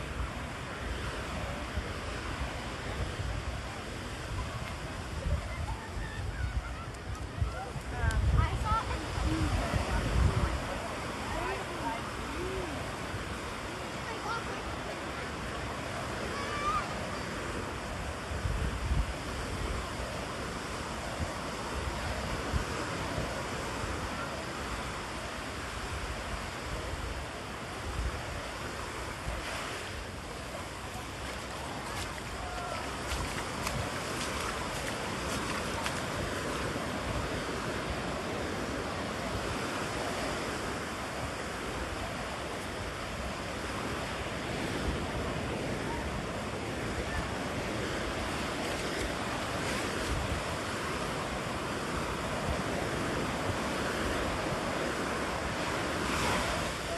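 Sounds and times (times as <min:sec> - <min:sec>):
ocean surf breaking on beach: 0:00.0 - 0:56.9
wind rumbling on microphone: 0:00.0 - 0:56.9.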